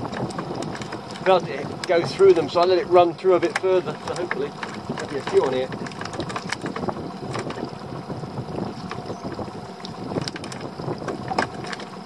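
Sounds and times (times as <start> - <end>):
light clicks and knocks: 0.0 - 7.7, 9.8 - 12.0
water slapping against boat hull: 0.0 - 12.0
wind on microphone: 0.0 - 12.0.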